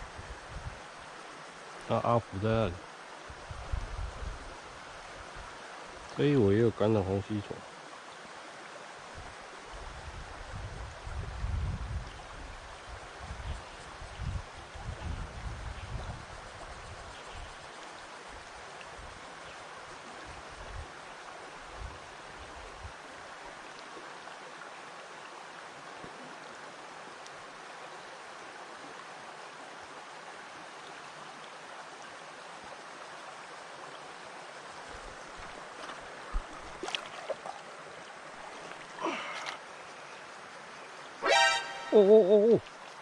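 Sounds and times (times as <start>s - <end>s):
creek running over stones: 0.0s - 43.0s.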